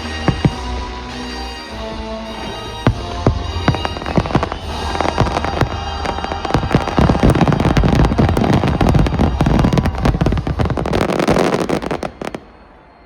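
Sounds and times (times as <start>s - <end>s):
fireworks booming bursts and crackles: 0.0s - 13.0s.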